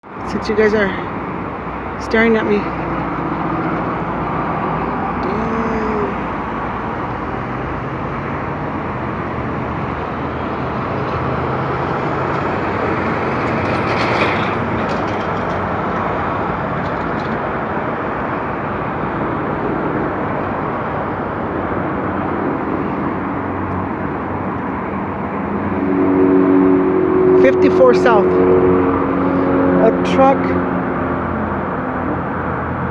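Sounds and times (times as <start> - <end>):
car engine hum: 0.0 - 32.9.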